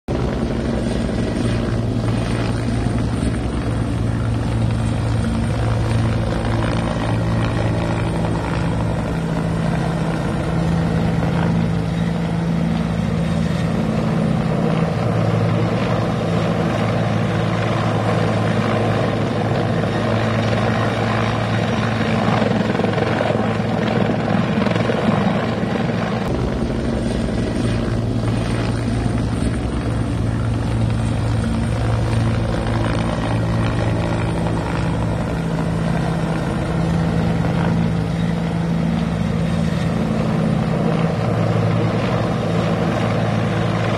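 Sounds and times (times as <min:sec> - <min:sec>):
helicopter hovering: 0:00.1 - 0:43.9.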